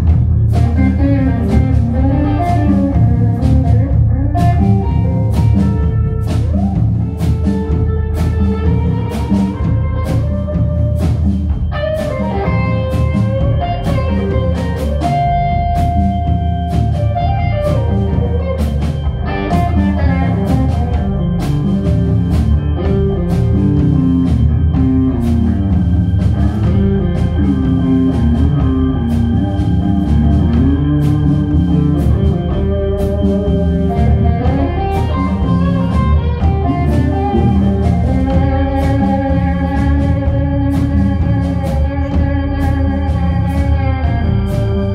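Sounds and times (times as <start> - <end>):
bass guitar: 0.0 - 44.9
drum kit: 0.0 - 44.9
electric guitar: 0.0 - 44.9
keyboards: 0.0 - 44.9.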